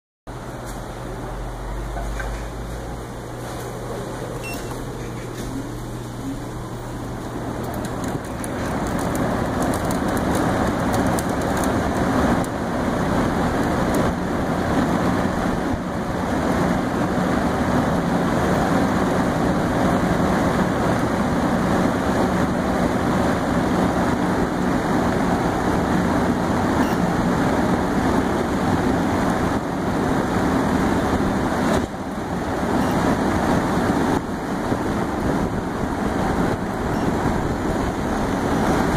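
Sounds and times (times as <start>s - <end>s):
air cooler fan blowing: 0.3s - 38.9s.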